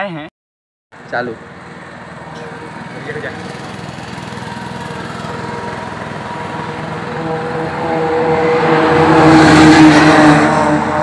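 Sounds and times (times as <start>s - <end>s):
truck passing: 0.9s - 11.0s.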